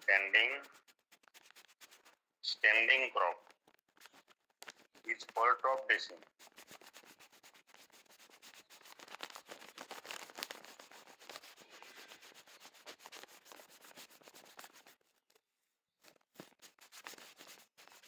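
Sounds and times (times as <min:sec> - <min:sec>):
faint rubbing and scratching: 0:00.0 - 0:18.0.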